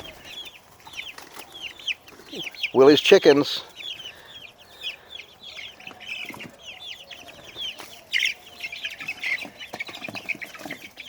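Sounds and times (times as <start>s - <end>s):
young chickens peeping: 0.0s - 11.0s.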